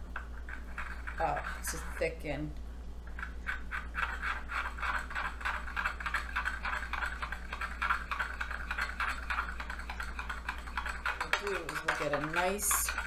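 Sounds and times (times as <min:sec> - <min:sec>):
metal utensil stirring in ceramic bowl: 0:00.1 - 0:02.5, 0:03.1 - 0:13.0.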